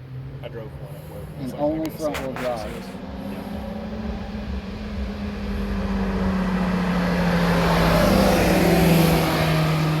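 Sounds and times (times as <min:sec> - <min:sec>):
car engine approaching: 0:00.0 - 0:10.0.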